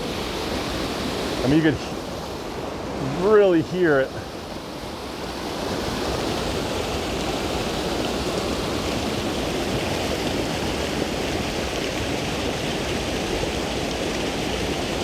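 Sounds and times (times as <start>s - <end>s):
waterfall rushing over rocks: 0.0s - 15.0s.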